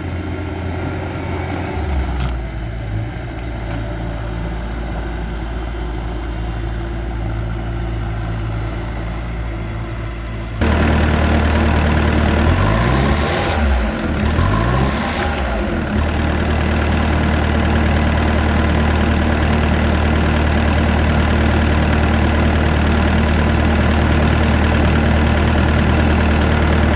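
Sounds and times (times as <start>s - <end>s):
diesel engine idling and revving: 0.0s - 26.9s.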